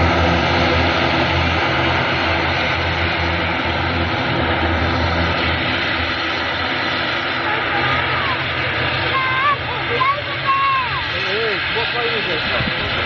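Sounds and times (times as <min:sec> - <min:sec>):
aircraft engines running: 0:00.0 - 0:13.0.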